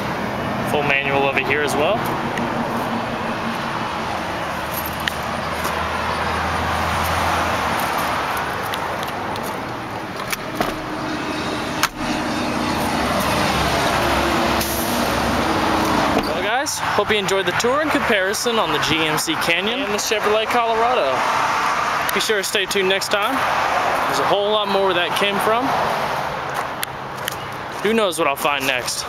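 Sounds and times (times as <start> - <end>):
highway traffic rushing: 0.0 - 29.0.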